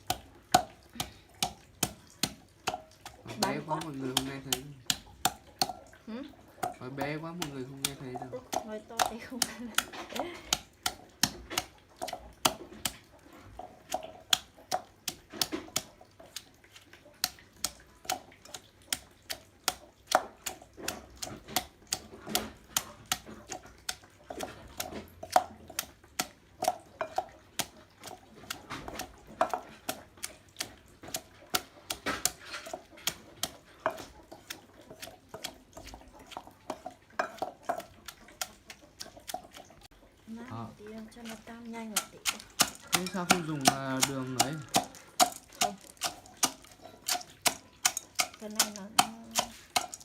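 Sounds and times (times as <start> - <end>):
pestle pounding in a mortar: 0.0 - 39.7, 40.6 - 50.0.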